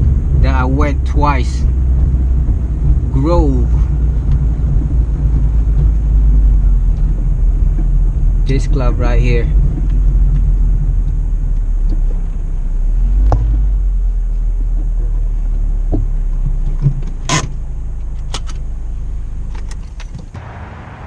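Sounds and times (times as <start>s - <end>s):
road rumble inside car: 0.0s - 21.0s.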